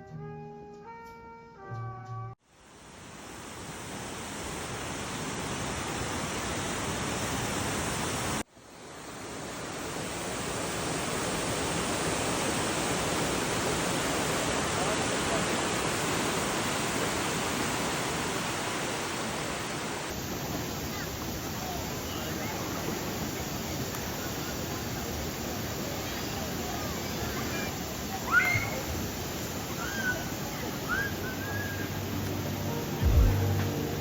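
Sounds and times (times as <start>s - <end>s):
stream water rushing over rocks: 2.6s - 34.0s.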